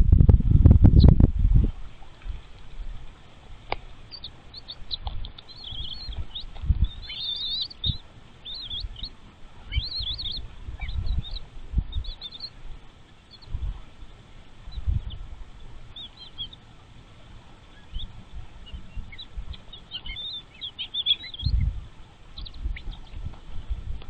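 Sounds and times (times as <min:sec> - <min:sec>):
small birds chirping: 0:00.6 - 0:24.0.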